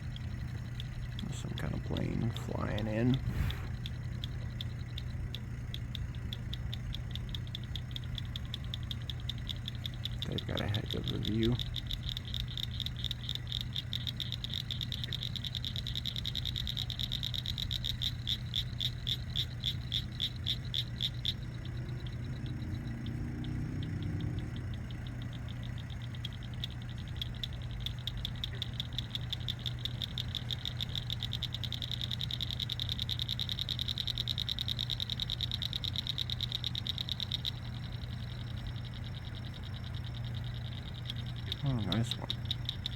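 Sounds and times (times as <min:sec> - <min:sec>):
aeration pump hum: 0:00.0 - 0:42.9
frogs trilling chorus: 0:00.0 - 0:42.9.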